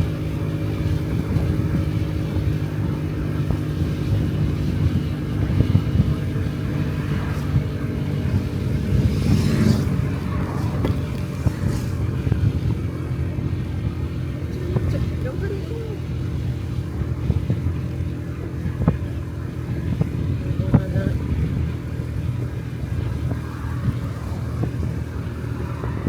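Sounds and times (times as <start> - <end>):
scooter engine cruising: 0.0 - 26.0
wind on microphone: 0.0 - 26.0.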